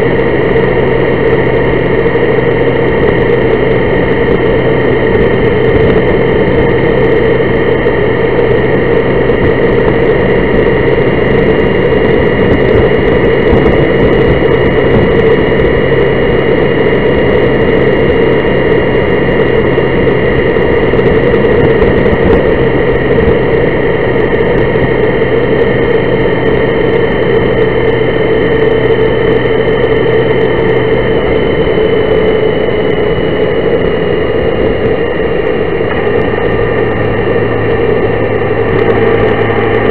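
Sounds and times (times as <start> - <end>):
motorcycle engine droning: 0.0 - 39.9
wind noise: 0.0 - 39.9.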